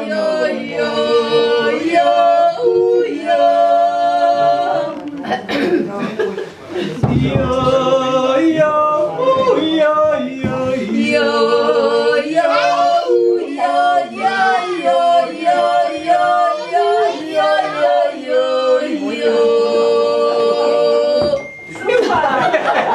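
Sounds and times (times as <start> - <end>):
people yodeling in harmony: 0.0 - 5.4, 7.1 - 21.6.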